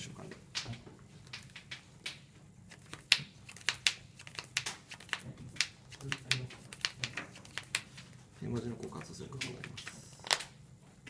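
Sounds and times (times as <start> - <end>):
trading cards clicking and tapping: 0.3 - 10.6.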